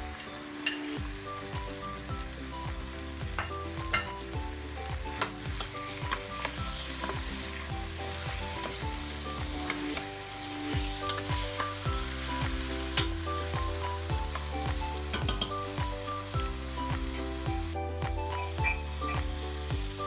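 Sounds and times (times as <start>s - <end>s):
background music with beat: 0.0s - 20.0s
meat sizzling in a pot: 0.0s - 20.0s.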